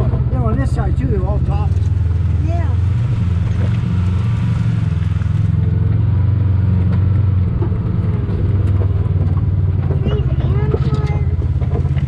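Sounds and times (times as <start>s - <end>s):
off-road vehicle engine rumbling: 0.0s - 12.0s.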